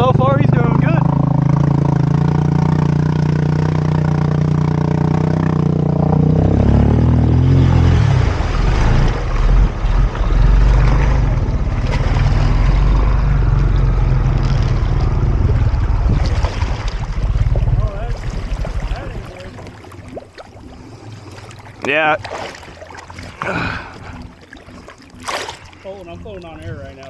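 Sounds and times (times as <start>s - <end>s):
quad bike engine running: 0.0s - 26.3s
water churning: 0.0s - 27.0s.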